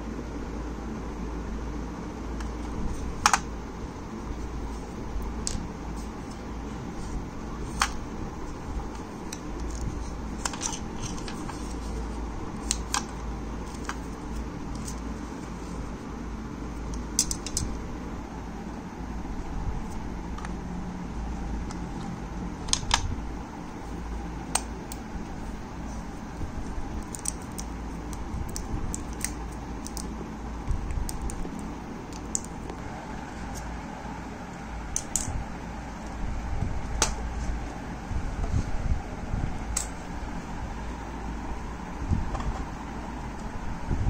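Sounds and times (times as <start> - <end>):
low background hum: 0.0 - 44.0.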